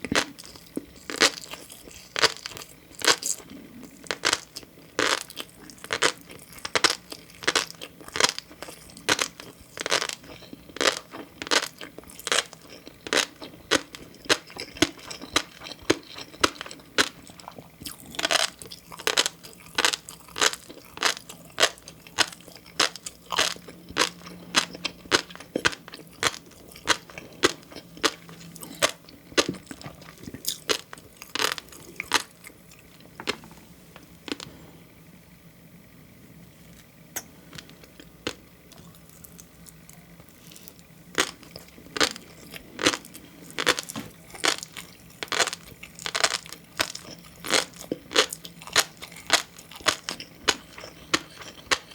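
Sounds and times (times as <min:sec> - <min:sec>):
chewing crunchy fish roe: 0:00.0 - 0:33.4, 0:34.2 - 0:35.0, 0:36.6 - 0:51.9.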